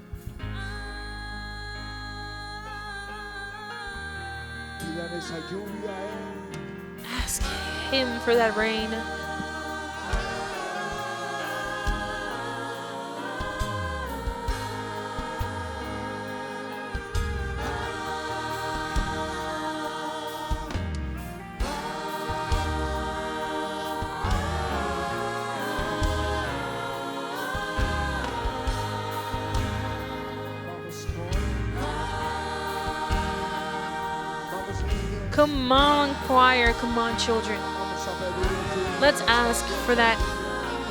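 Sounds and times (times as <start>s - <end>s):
choir singing worship song: 0.0s - 40.9s
band accompaniment: 5.1s - 40.9s.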